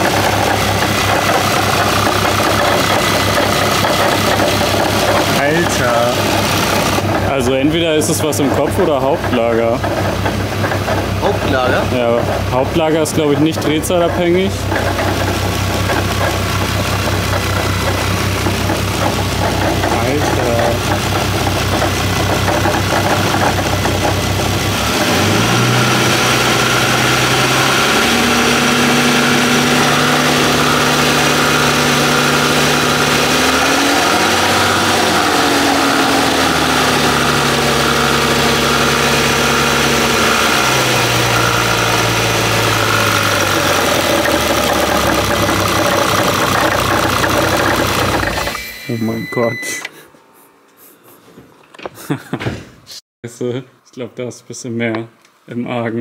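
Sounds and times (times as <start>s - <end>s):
car engine revving: 0.0s - 48.6s
heavy mechanical engine rattle: 0.0s - 49.6s.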